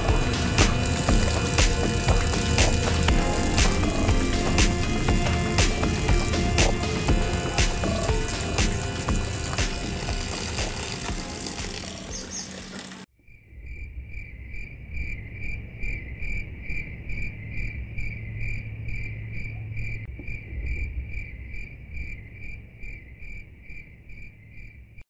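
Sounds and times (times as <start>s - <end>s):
low rumble: 0.0s - 12.2s, 13.2s - 23.2s
insect chirping: 0.0s - 25.0s.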